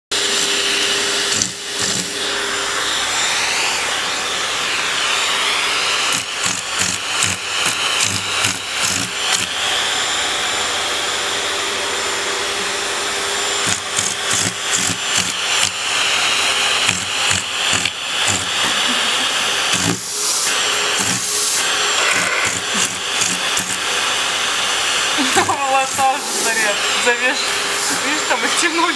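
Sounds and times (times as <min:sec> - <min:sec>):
vacuum cleaner motor whine: 0:00.1 - 0:28.9
vacuum nozzle sucking and sputtering: 0:00.1 - 0:28.9.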